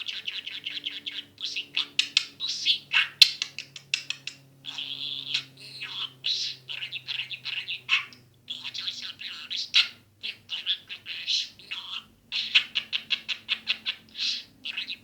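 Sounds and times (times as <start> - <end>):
budgerigar chattering and warbling: 0.0 - 15.0.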